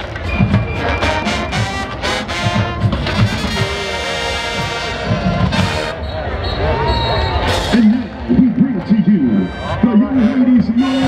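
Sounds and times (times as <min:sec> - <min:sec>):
drumline: 0:00.0 - 0:11.0
marching band brass: 0:00.0 - 0:11.0.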